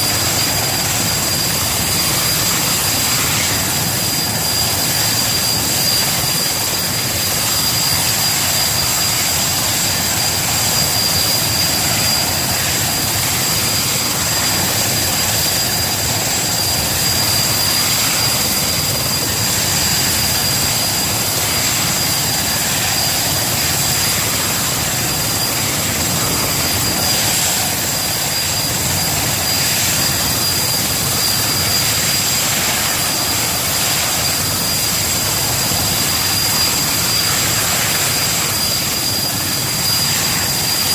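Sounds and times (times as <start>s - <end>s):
helicopter turbine whine and rotor: 0.0s - 40.9s.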